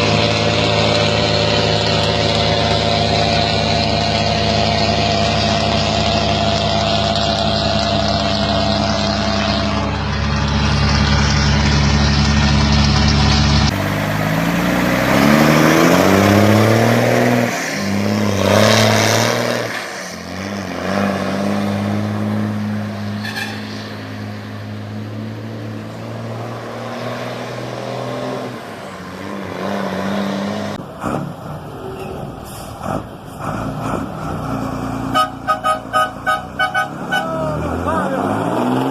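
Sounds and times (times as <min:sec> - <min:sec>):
diesel truck engine running and revving: 0:00.0 - 0:38.9.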